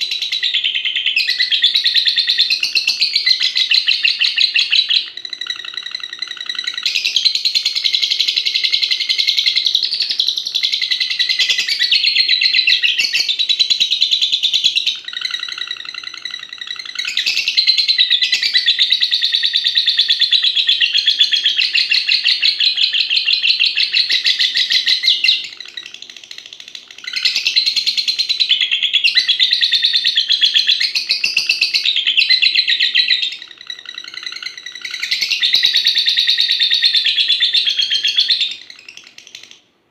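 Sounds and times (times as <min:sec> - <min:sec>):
lovebird chattering trills: 0:00.0 - 0:39.7.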